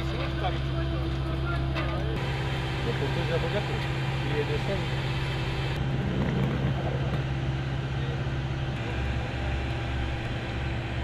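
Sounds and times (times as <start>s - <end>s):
engine drone: 0.0s - 11.0s
machinery hum: 0.0s - 11.0s.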